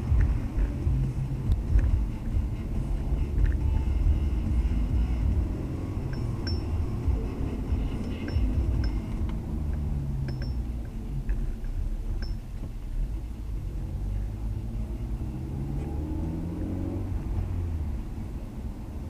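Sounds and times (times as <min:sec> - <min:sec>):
car engine revving in cabin: 0:00.0 - 0:19.0.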